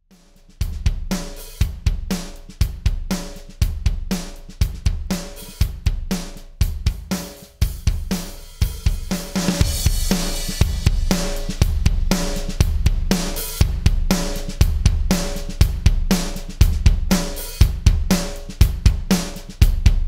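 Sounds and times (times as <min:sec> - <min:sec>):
drum kit groove: 0:00.0 - 0:20.0.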